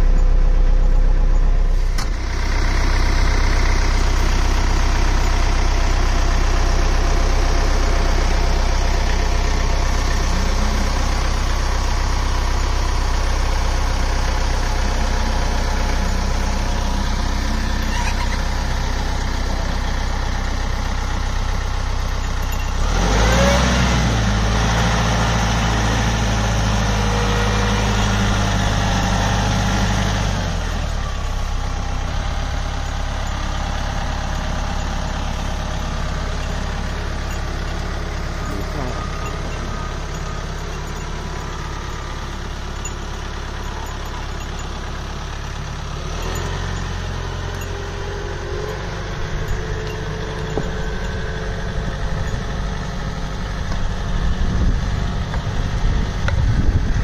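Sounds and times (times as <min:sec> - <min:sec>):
diesel tractor engine idling and revving: 0:00.0 - 0:57.0.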